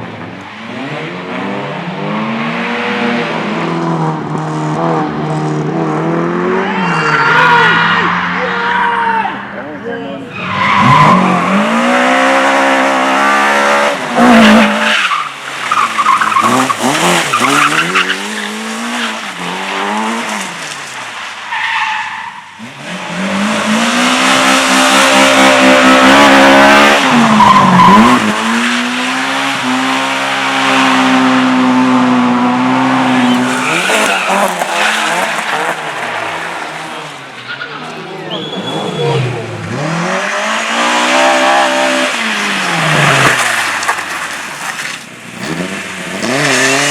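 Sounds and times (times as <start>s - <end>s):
race car engine revving: 0.0s - 46.9s
tyres skidding and squealing: 0.0s - 46.9s.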